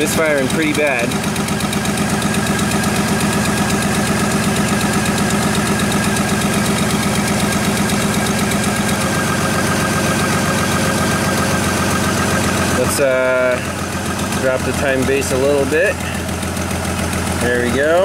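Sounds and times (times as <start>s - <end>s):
engine idling with misfire: 0.0s - 18.0s.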